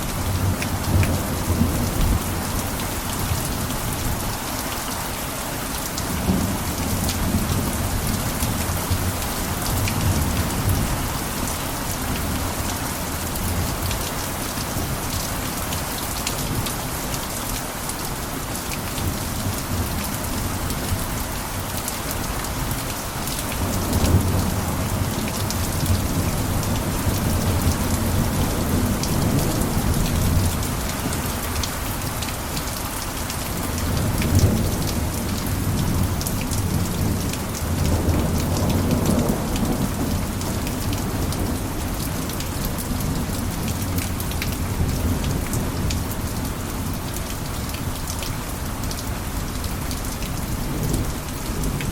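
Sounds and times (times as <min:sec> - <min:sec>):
heavy rain on a roof: 0:00.0 - 0:51.9.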